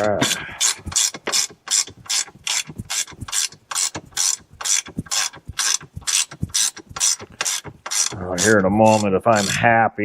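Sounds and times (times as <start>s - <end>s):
hand ratchet clicking: 0.0s - 9.6s.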